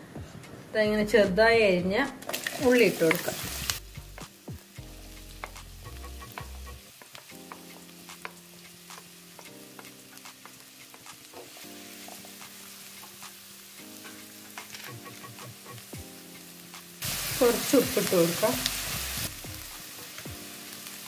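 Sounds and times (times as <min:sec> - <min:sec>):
onions sizzling in oil: 0:02.3 - 0:21.0.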